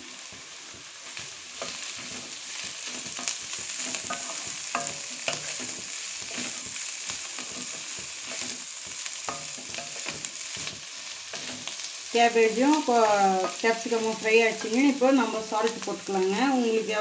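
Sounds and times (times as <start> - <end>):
vegetables sizzling in oil: 0.0 - 17.0
wooden spatula scraping wok: 0.1 - 15.5.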